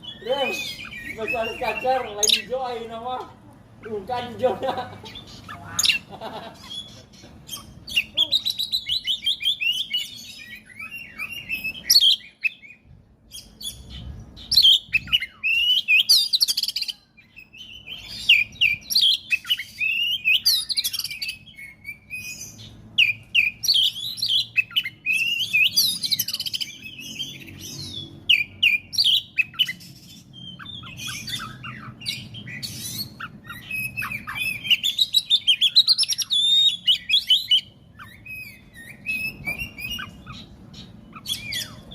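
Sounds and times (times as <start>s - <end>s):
bird singing whistles and chatter: 0.0s - 2.8s, 5.2s - 41.9s.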